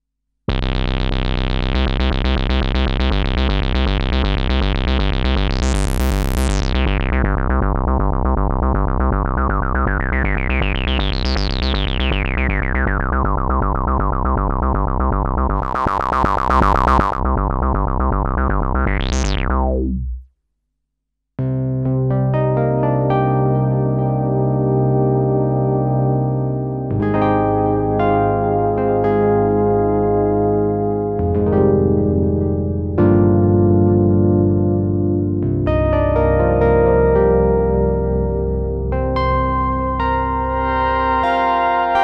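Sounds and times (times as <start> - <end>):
synthesizer chord with filter sweeps: 0.5 - 20.2, 21.4 - 42.0
pulsing synth bass: 0.5 - 20.3, 24.1 - 42.0.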